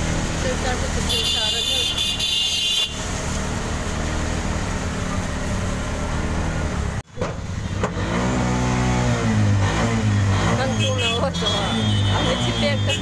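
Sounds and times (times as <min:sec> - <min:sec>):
vehicle engine running: 0:00.0 - 0:02.2, 0:02.9 - 0:13.0.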